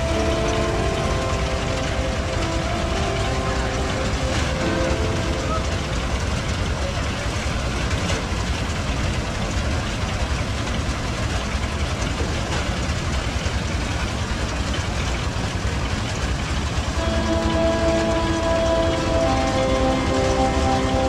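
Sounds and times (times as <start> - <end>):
tractor engine drone: 0.0 - 21.0.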